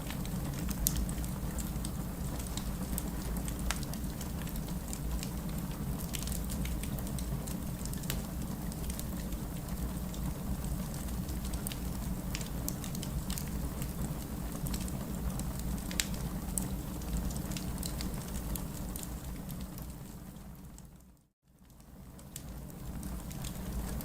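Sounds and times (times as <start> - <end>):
fireplace crackling and popping: 0.0 - 21.0, 21.6 - 24.0.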